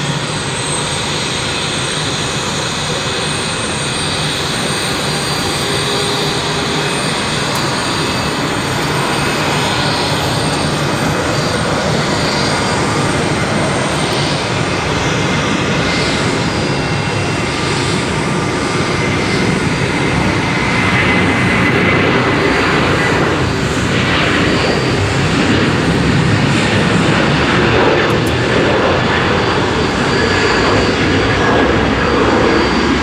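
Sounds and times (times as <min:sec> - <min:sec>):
faint engine whine: 0:00.0 - 0:33.0
jet engines at take-off thrust: 0:00.0 - 0:33.0.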